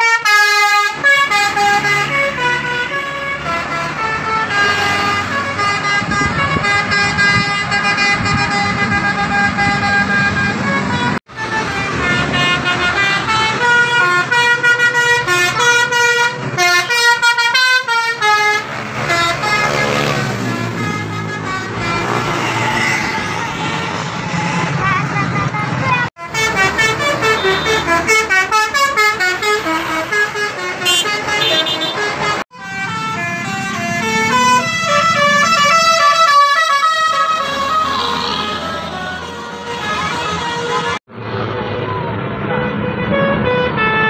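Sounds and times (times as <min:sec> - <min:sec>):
multi-tone bus air horns: 0:00.0 - 0:41.8, 0:42.4 - 0:44.0
bus engines passing: 0:00.0 - 0:44.0.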